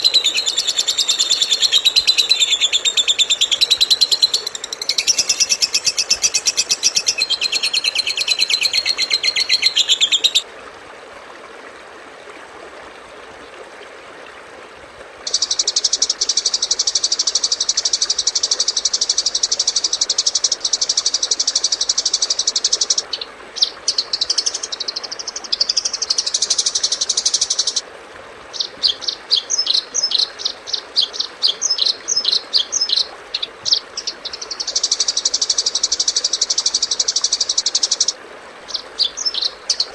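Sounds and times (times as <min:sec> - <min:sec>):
recorded songbird calls: 0:00.0 - 0:10.4, 0:15.2 - 0:27.8, 0:28.5 - 0:39.9.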